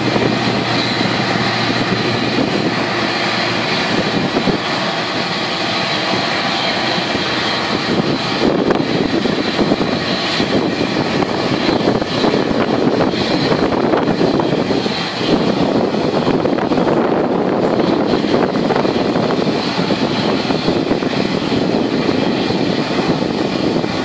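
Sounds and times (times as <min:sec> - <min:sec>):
continuous rushing noise: 0:00.0 - 0:24.0
jet engine whine: 0:00.0 - 0:24.0.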